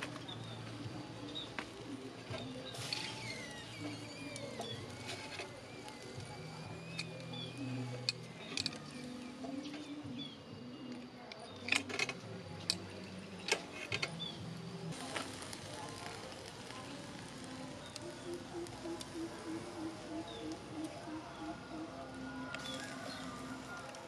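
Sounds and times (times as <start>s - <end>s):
coals crackling and popping: 0.0s - 24.0s.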